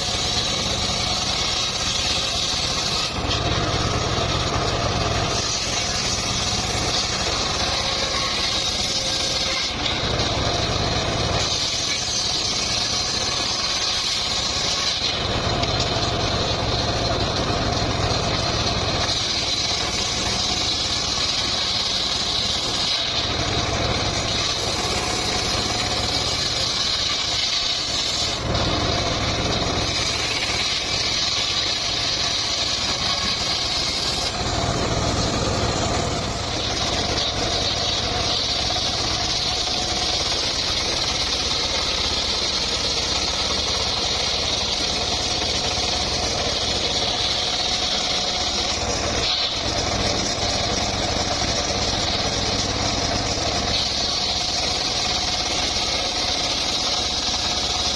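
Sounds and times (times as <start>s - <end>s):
sawmill blade cutting wood: 0.0s - 57.9s.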